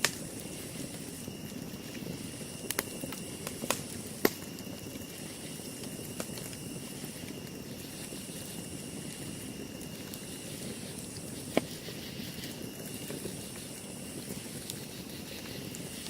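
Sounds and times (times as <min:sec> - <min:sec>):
campfire hissing: 0:00.0 - 0:16.0
fire crackling pops: 0:00.0 - 0:16.0.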